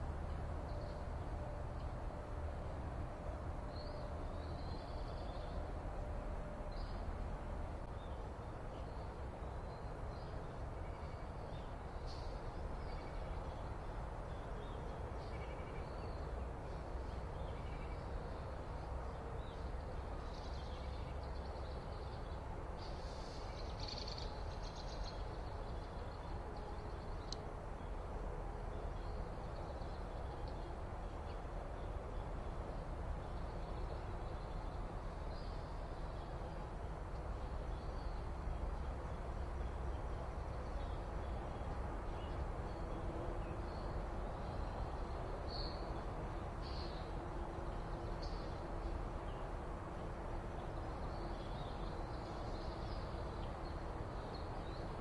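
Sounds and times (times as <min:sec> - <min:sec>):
low outdoor rumble and hiss: 0:00.0 - 0:55.0.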